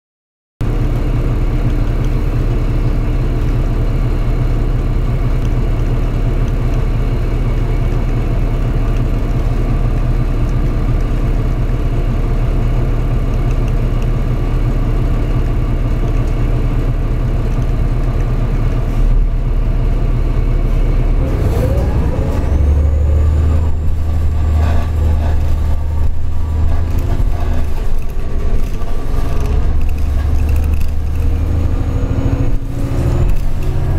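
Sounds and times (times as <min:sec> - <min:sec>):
bus diesel engine humming: 0:00.6 - 0:33.9.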